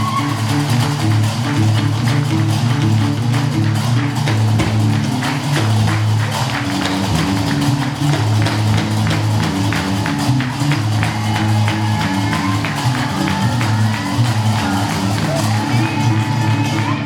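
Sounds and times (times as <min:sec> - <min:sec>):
bass lute bass line: 0:00.0 - 0:17.0.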